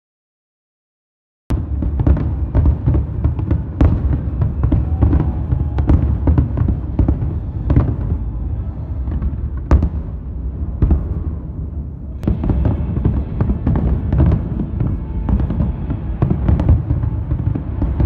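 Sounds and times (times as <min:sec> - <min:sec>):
fireworks bangs and crackles: 0:01.5 - 0:18.0
low rumble: 0:01.5 - 0:18.0.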